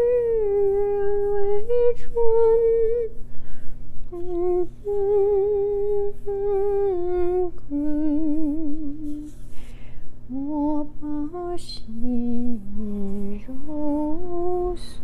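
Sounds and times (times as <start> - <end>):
woman humming a slow melody: 0.0 - 3.2, 4.0 - 9.4, 10.3 - 15.0.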